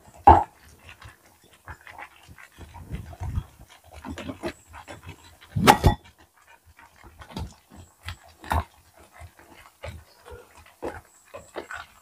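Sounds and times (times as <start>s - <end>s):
porridge bubbling and plopping: 0.0s - 12.0s.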